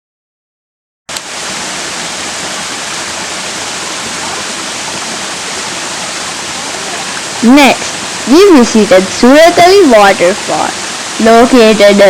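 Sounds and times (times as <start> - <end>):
waterfall rushing: 1.1 - 12.0.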